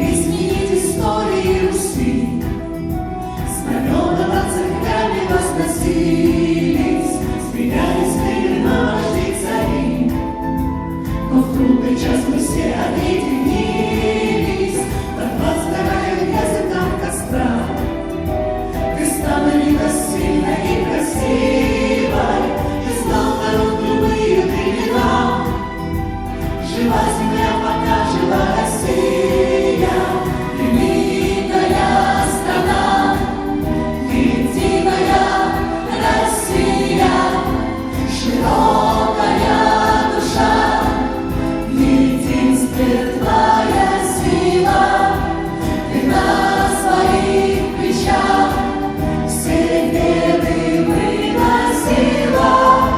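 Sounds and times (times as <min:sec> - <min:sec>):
choir singing: 0:00.0 - 0:52.9
instrumental accompaniment with beat: 0:00.0 - 0:52.9.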